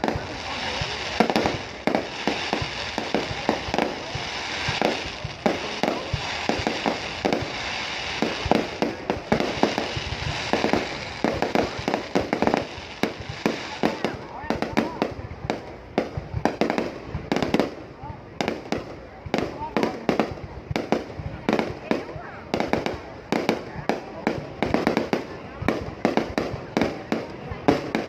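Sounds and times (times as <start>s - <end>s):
firework crackling: 0.0s - 28.0s.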